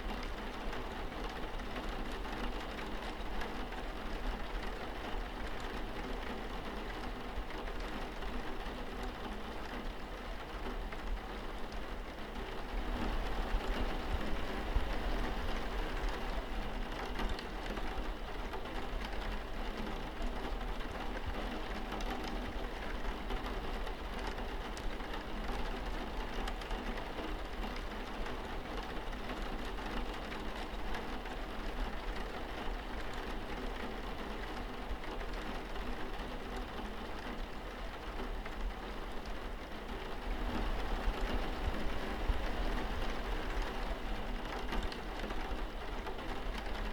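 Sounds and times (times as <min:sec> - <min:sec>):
rain on a window: 0:00.0 - 0:46.9.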